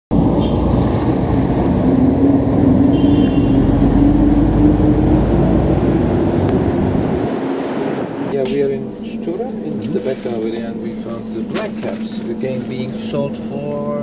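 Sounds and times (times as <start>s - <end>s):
diesel truck passing: 0.1s - 14.0s
road traffic rumble: 0.1s - 14.0s.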